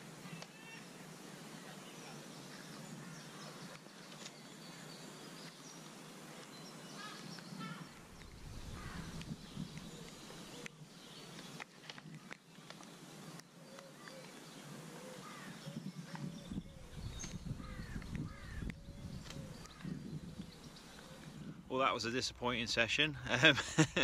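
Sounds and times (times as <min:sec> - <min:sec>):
birds calling: 0:00.0 - 0:24.0
steady hiss: 0:00.0 - 0:24.0.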